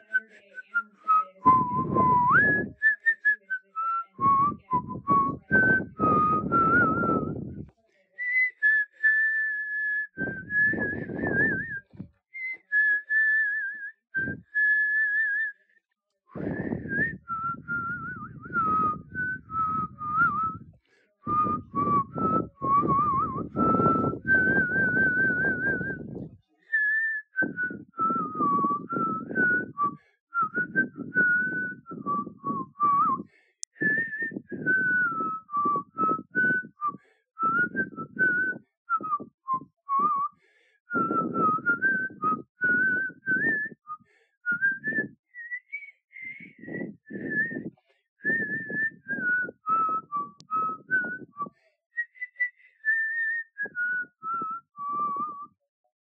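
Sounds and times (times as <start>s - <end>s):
person whistling a tune: 0.0s - 55.6s.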